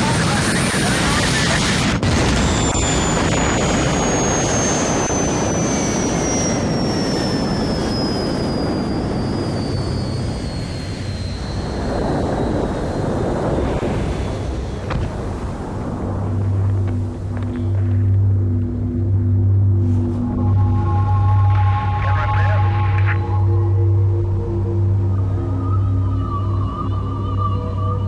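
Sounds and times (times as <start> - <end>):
jet engine roar and whine: 0.0 - 28.0.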